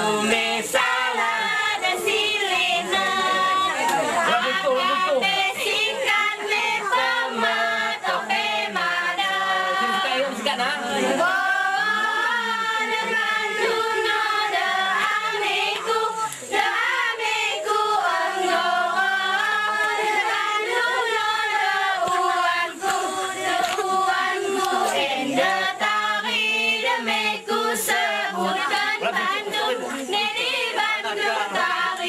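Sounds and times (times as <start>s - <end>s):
women and girls singing in unison: 0.0s - 32.0s.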